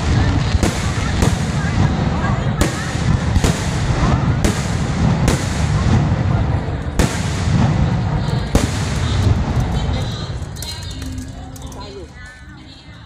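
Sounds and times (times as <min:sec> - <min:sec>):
firework bangs: 0:00.0 - 0:10.6
low rumble and crackle: 0:00.0 - 0:13.0.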